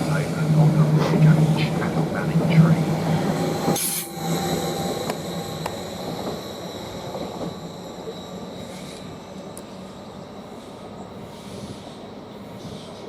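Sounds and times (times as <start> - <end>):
electric train pulling out: 0.0 - 13.0.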